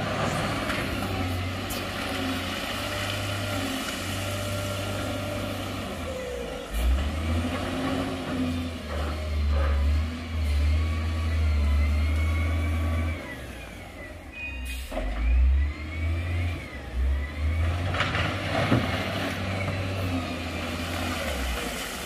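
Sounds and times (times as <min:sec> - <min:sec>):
diesel machinery revving: 0:00.0 - 0:22.0.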